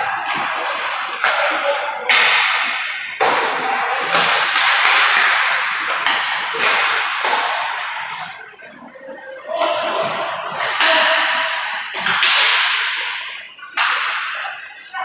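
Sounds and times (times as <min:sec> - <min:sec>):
hockey sticks and puck cracking: 0:00.0 - 0:08.4, 0:09.5 - 0:15.0.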